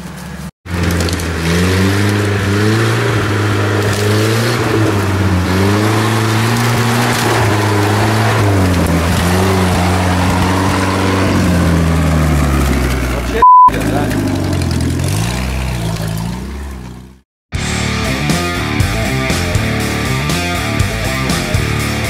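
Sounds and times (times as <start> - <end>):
engine revving: 0.6 - 22.0.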